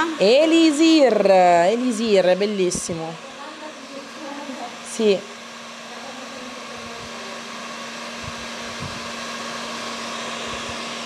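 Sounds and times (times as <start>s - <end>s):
heat gun blowing: 0.0s - 11.0s.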